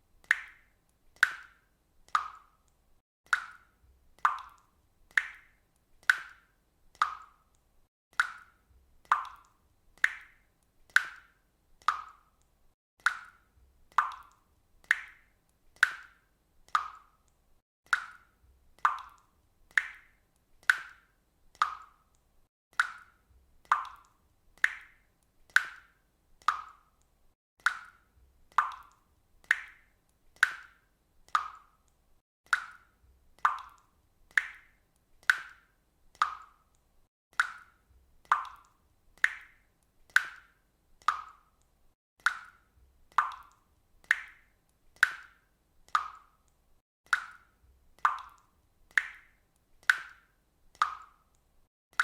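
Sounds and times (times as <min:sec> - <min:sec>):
water drops plopping into water: 0:00.2 - 0:52.0.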